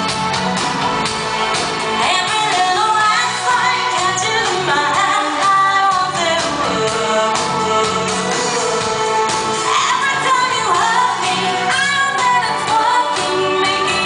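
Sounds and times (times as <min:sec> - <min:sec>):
steady drum beat: 0:00.0 - 0:14.0
synth-pop band playing: 0:00.0 - 0:14.0
woman singing into a microphone: 0:02.0 - 0:14.0.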